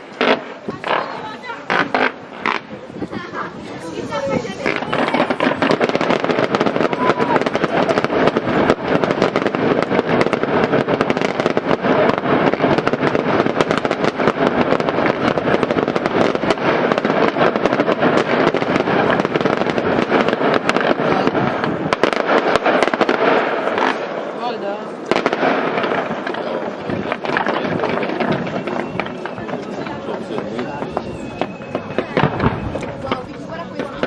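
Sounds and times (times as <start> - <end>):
firecrackers crackling: 0.0 - 34.0.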